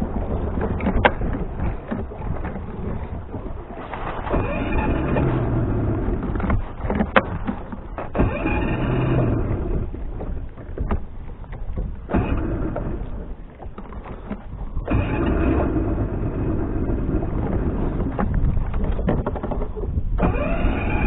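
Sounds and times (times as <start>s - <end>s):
outboard motor cranking: 0.0s - 21.0s.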